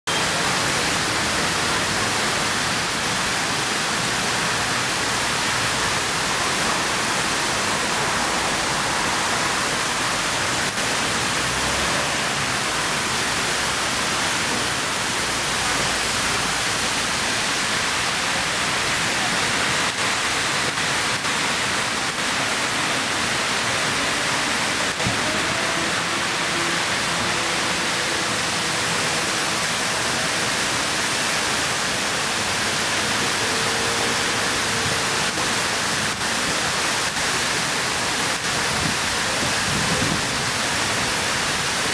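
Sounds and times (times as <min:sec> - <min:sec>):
fountain water spilling: 0:00.1 - 0:41.9.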